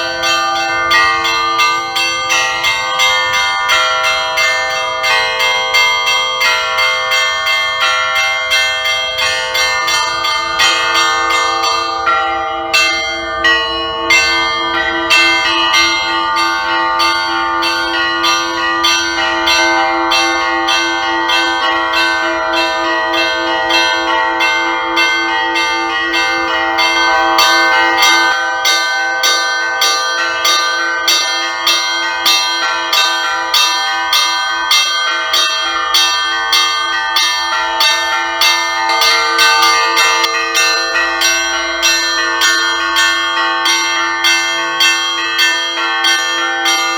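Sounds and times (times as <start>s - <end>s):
large bells ringing: 0.0s - 46.9s
small bells struck rapidly: 0.0s - 46.9s.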